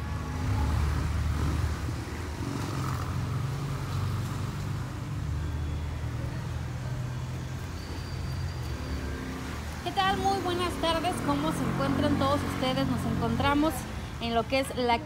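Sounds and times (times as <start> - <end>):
faint street noise: 0.0 - 15.0.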